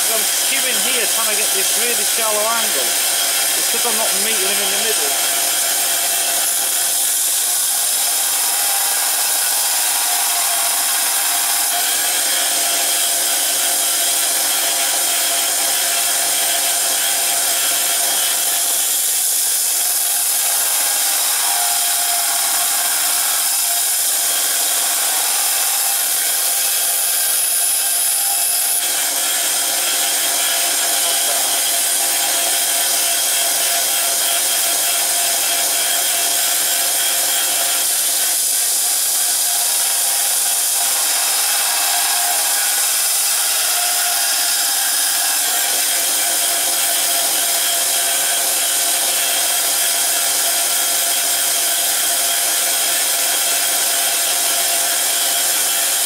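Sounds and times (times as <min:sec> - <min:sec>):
belt sander running: 0:00.0 - 0:56.0.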